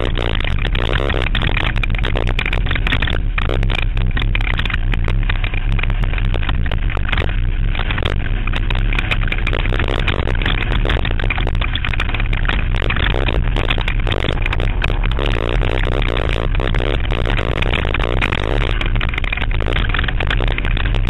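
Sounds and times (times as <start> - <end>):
racing car engine rumble: 0.0 - 21.0.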